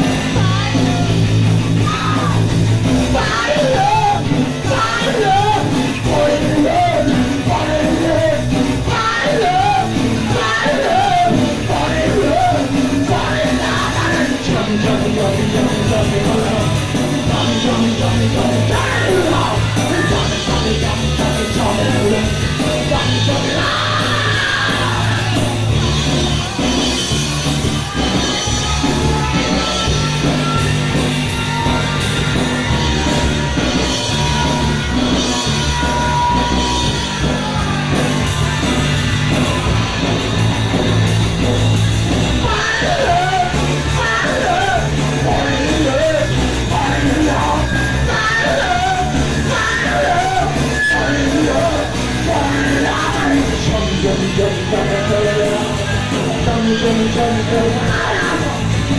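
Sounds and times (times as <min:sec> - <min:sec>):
punk rock band playing: 0:00.0 - 0:58.9.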